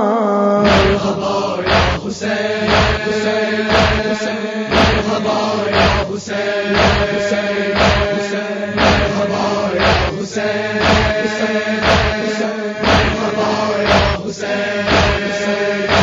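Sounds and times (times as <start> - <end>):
men chanting a lament: 0.0 - 16.0
chest-beating: 0.7 - 6.2, 6.8 - 7.2, 7.8 - 14.2, 14.9 - 15.3.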